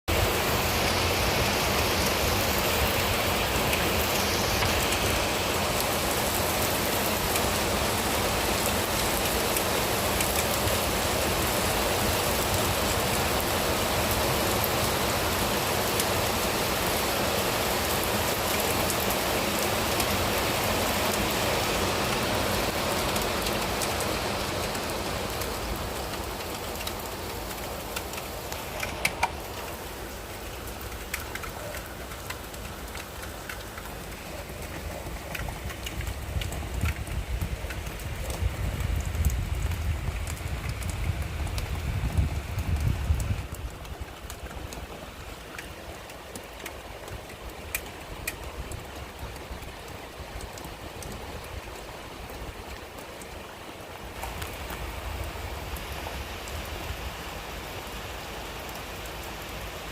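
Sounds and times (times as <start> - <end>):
steady rain falling: 0.1 - 59.9.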